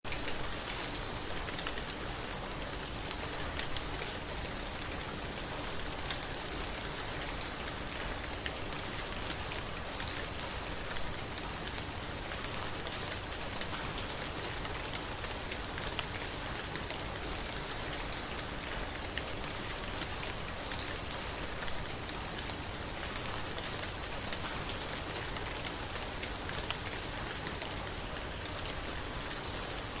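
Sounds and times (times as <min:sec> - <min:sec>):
heavy rain on wet street: 0:00.1 - 0:30.0.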